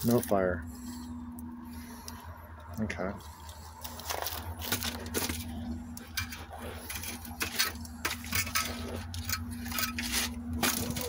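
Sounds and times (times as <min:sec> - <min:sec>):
steady low hum: 0:00.0 - 0:11.0
battery crackling and popping: 0:01.3 - 0:11.0.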